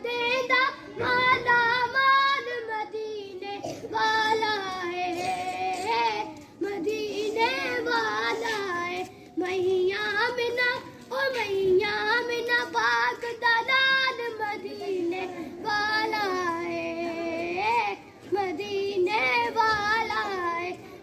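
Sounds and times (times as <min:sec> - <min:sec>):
child singing devotional song: 0:00.0 - 0:21.0.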